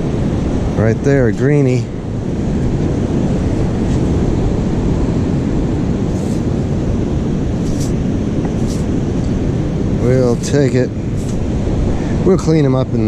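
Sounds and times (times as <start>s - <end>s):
beach surf: 0.0s - 13.0s
wind buffeting the microphone: 0.0s - 13.0s.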